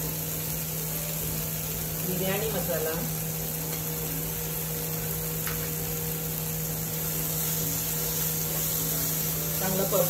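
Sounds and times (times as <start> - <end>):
kitchen appliance hum and hiss: 0.0 - 10.0.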